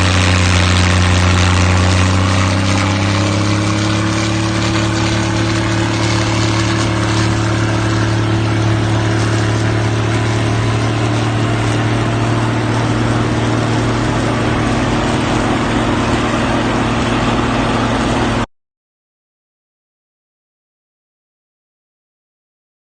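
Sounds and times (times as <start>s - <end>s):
diesel engine running steadily: 0.0s - 18.5s.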